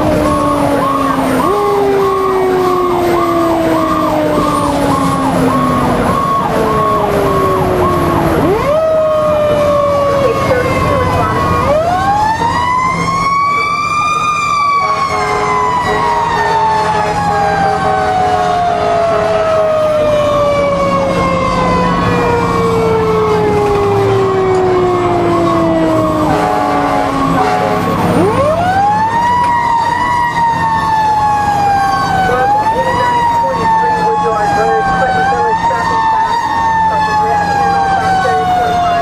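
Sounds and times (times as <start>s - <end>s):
truck engine droning: 0.0s - 39.0s.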